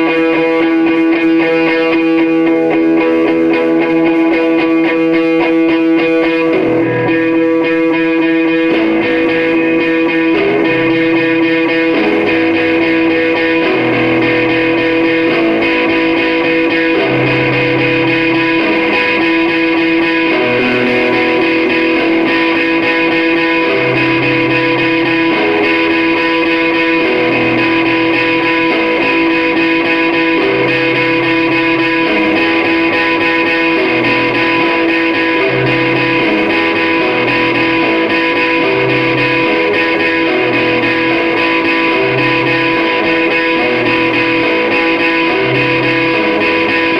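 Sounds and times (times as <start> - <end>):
electric guitar held note: 0.0 - 46.9
lower guitar notes: 0.0 - 46.9.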